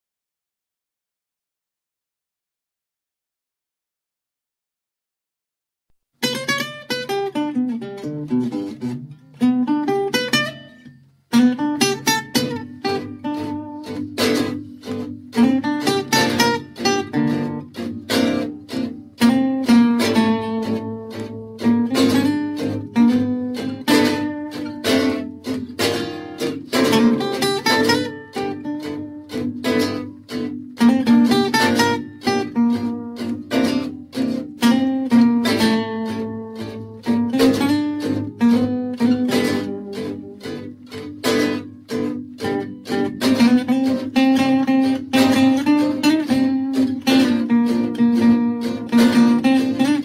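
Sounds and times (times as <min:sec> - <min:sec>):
strummed guitar chords: 0:06.2 - 0:50.0.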